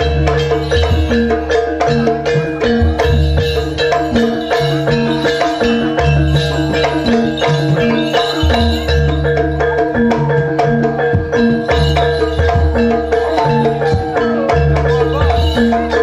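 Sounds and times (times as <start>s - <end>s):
low drum pattern: 0.0s - 16.0s
ringing metallophone tones: 0.0s - 16.0s.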